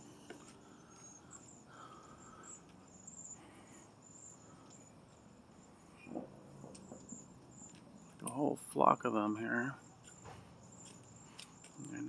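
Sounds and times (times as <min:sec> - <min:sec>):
small birds calling: 0:00.0 - 0:08.4, 0:09.4 - 0:12.0.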